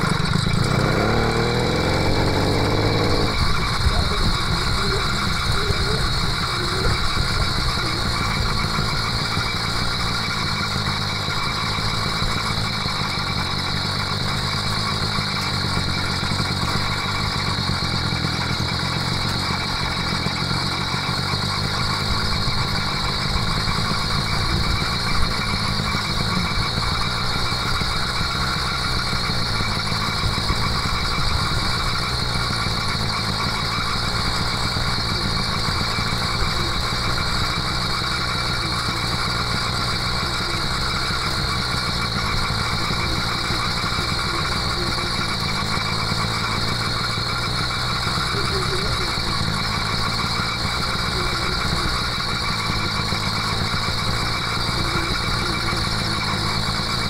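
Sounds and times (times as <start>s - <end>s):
two-stroke motorbike engine running: 0.0s - 57.0s.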